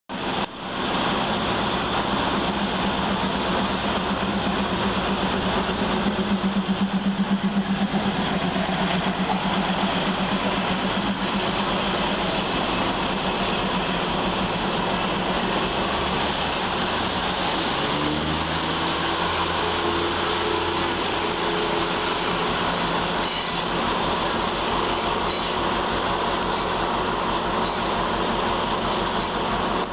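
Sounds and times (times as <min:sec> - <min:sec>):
diesel engine hum: 0:00.1 - 0:29.9
train wheels rumbling on rails: 0:00.1 - 0:29.9.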